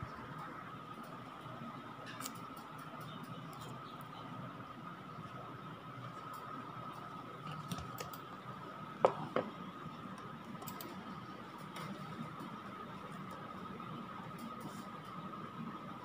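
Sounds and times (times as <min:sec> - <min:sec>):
faint electrical whine: 0:00.0 - 0:16.0.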